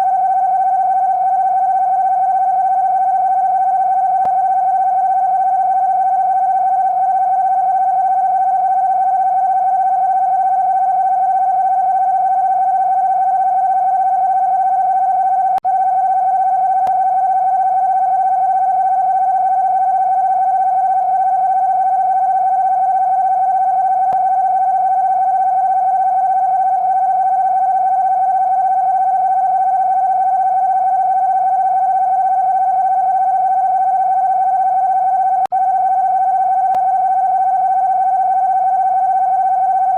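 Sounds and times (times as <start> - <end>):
steady electronic alarm tone: 0.0 - 39.9.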